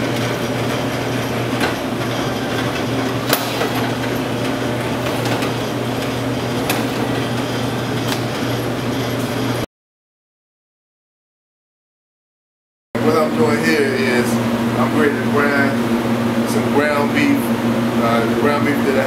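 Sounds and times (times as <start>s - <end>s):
electric meat cuber humming: 0.0s - 9.7s, 13.0s - 19.0s.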